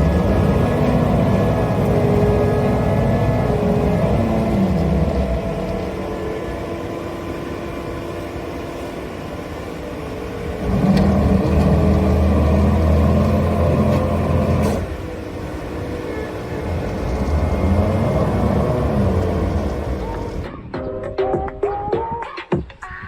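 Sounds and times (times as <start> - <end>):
engine running: 0.0 - 20.7.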